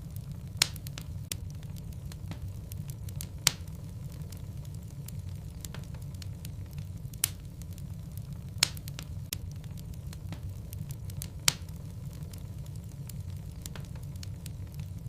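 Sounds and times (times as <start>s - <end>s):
burning logs popping: 0.0s - 15.0s
fire flames rumbling: 0.0s - 15.0s.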